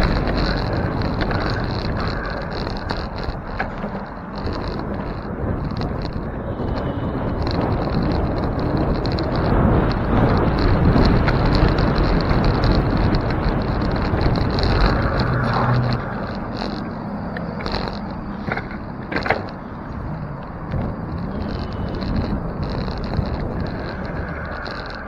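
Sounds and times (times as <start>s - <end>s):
bicycle tyre and road noise: 0.0s - 25.0s
wind rumbling on microphone: 0.0s - 25.0s.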